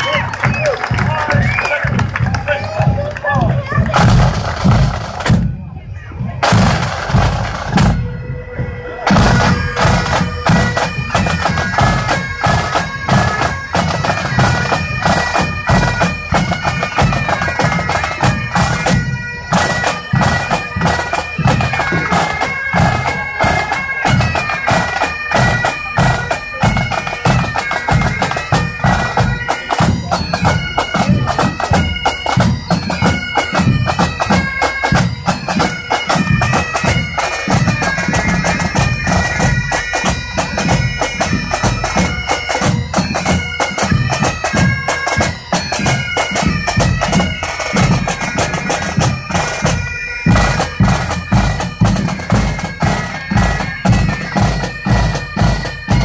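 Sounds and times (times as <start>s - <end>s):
snare drums beating: 0.0s - 5.6s, 6.4s - 8.1s, 9.1s - 56.0s
bagpipes playing: 6.4s - 56.0s.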